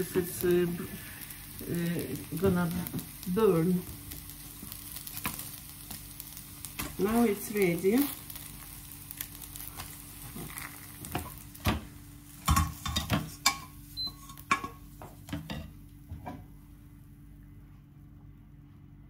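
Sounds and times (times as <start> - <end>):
oil sizzling in frying pan: 0.0 - 16.7.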